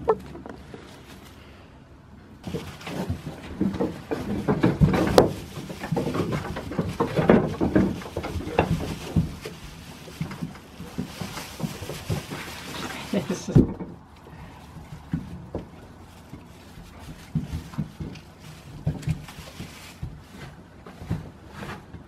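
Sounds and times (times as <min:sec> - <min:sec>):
knocks and rustles: 0:00.0 - 0:01.4, 0:02.3 - 0:22.0.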